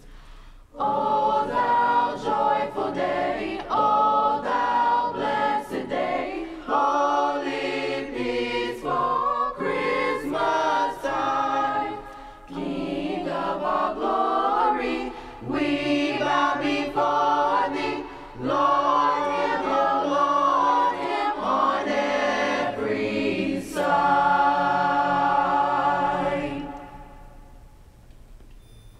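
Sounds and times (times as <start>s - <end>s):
choir singing a carol: 0.7s - 27.7s.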